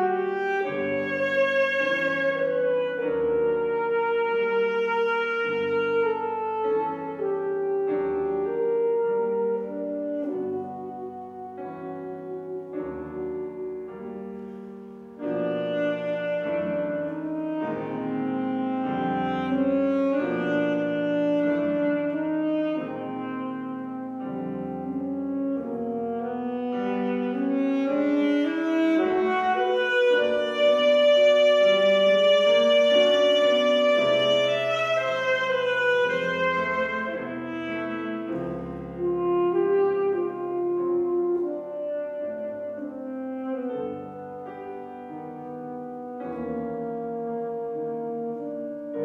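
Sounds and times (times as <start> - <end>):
alto saxophone slow melody: 0.0 - 49.0
piano accompaniment: 0.0 - 49.0.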